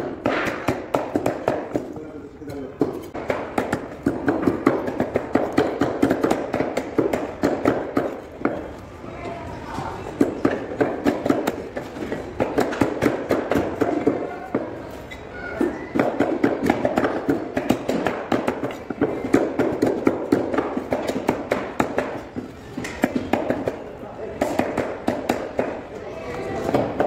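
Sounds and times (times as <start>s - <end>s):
cleavers chopping on wooden blocks: 0.0s - 2.0s, 2.7s - 8.8s, 10.1s - 14.7s, 15.6s - 23.8s, 24.4s - 25.9s, 26.6s - 27.0s.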